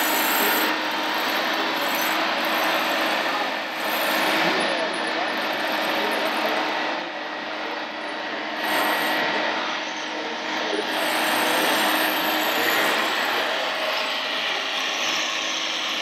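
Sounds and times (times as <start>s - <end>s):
model machines whirring and rattling: 0.0s - 16.0s.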